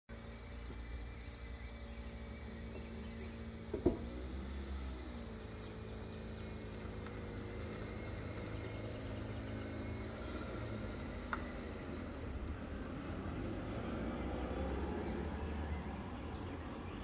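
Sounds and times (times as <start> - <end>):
vehicle engine running: 0.1 - 17.0.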